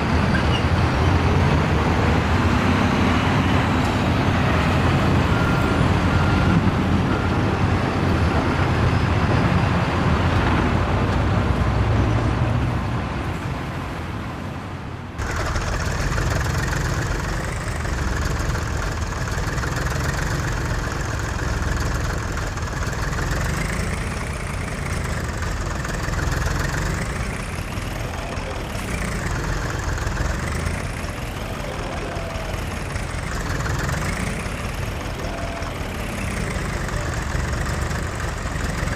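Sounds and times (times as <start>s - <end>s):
diesel machinery engines running: 0.0s - 38.9s.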